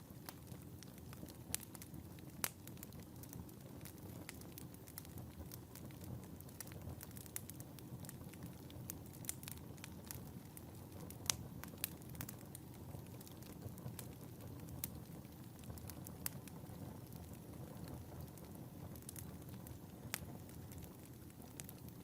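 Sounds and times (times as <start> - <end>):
fire rumbling in fireplace: 0.0 - 22.0
wood fire crackling and popping: 0.0 - 22.0.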